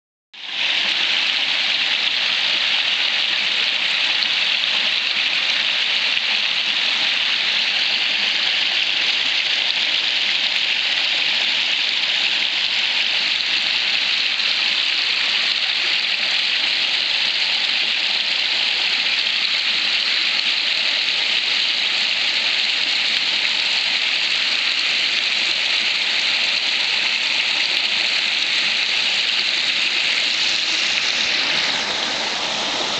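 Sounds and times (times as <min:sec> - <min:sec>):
creek flowing over stones: 0:00.4 - 0:32.9.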